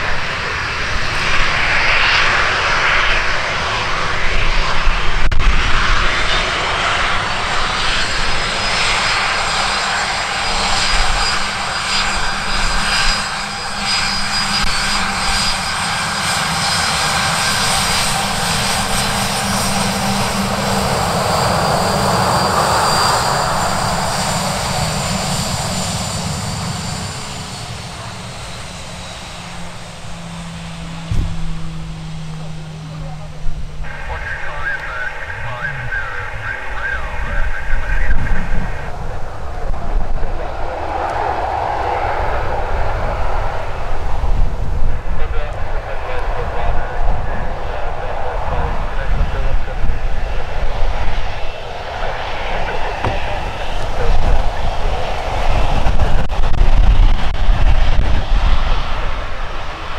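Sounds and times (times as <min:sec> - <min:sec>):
airliner engines running: 0:00.0 - 0:59.9.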